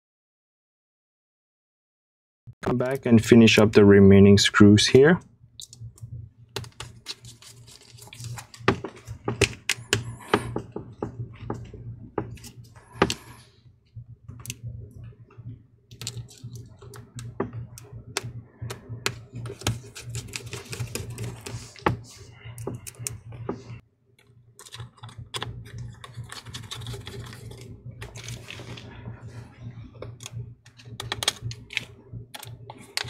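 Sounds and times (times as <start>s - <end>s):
low steady hum: 2.6s - 33.0s.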